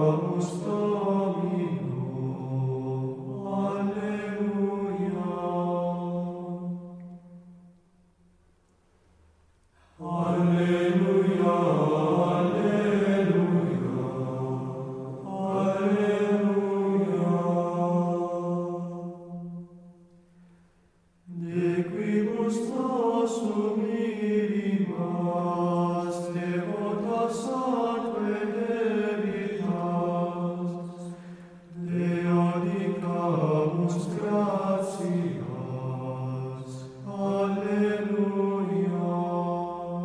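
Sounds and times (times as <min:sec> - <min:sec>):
slow sung chant: 0:00.0 - 0:08.4, 0:09.6 - 0:40.0.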